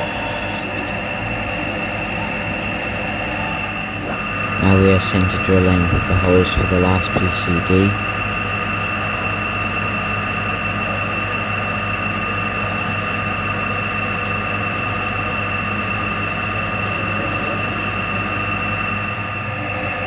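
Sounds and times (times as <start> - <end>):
milling machine whining: 0.0 - 20.0.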